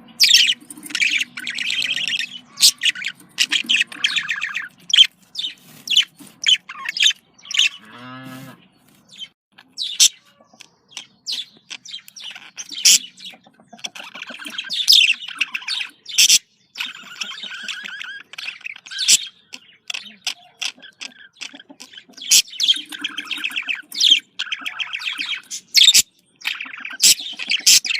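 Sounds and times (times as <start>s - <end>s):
budgerigars chirping: 0.0s - 8.0s, 8.6s - 27.9s
budgerigars warbling: 0.0s - 27.9s.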